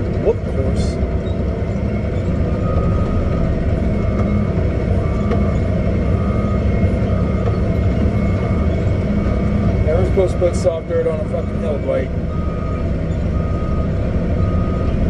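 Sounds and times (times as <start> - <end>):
heavy diesel engine rumble: 0.0 - 15.0.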